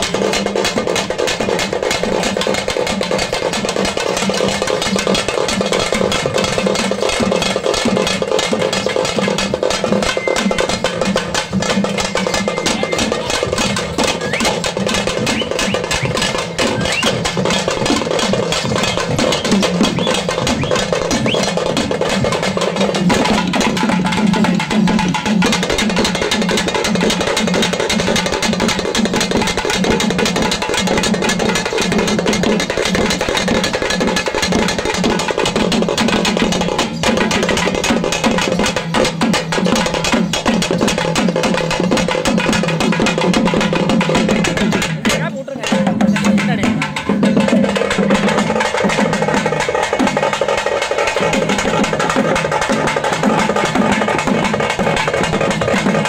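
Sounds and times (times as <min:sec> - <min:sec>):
barrel drums struck fast: 0:00.0 - 0:56.0.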